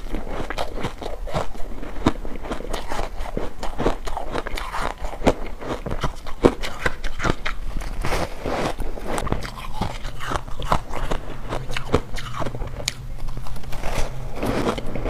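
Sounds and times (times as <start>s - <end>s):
ice crunching in mouth: 0.0s - 15.0s.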